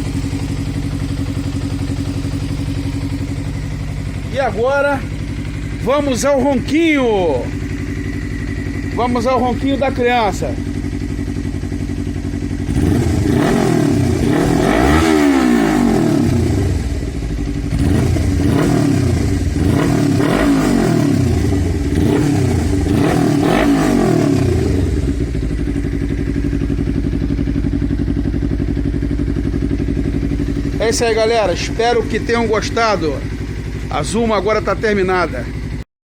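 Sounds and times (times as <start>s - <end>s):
motorcycle engine revving: 0.0s - 35.8s.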